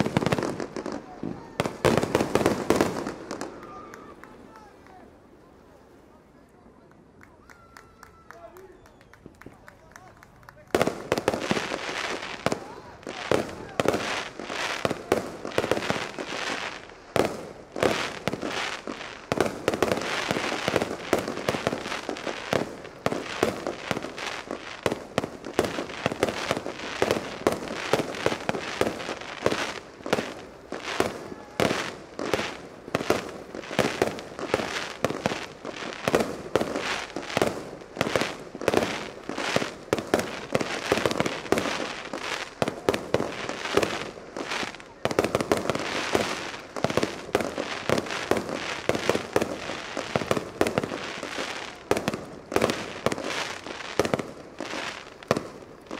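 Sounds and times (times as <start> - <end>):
fireworks bursting: 0.0 - 5.6, 7.0 - 55.9
fireworks crackling: 0.0 - 55.9.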